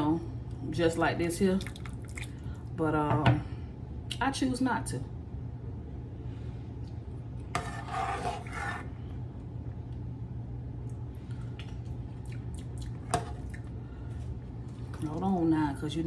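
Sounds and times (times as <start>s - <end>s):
kitchen hum: 0.0s - 16.0s.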